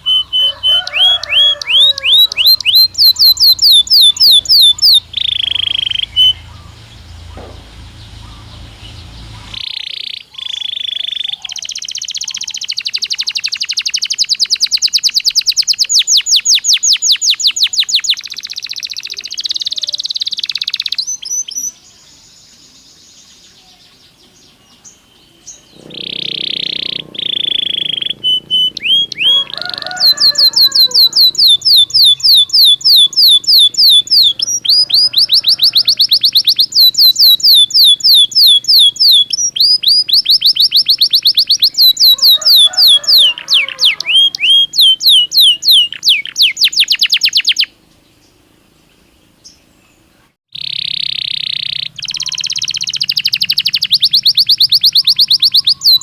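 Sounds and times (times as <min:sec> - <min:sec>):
canary singing trills: 0:00.0 - 0:48.4, 0:49.3 - 0:56.0.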